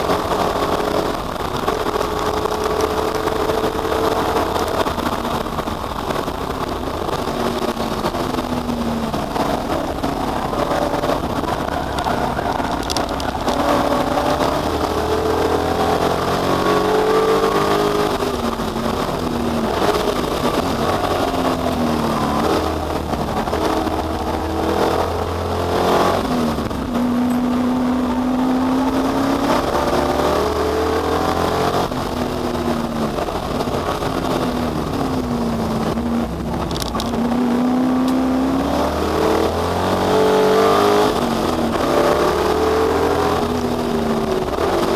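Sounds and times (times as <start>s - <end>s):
race car engine revving: 0.0s - 44.9s.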